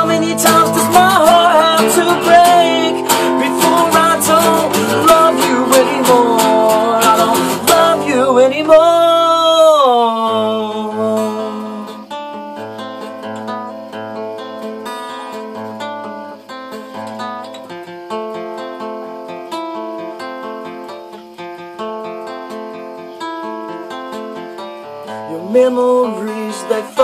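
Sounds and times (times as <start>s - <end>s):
acoustic guitar picking: 0.0s - 27.0s.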